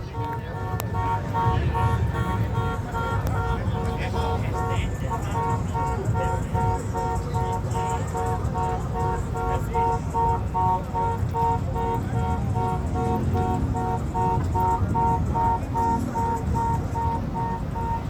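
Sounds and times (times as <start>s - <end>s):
car horn rapid beeps: 0.0s - 18.0s.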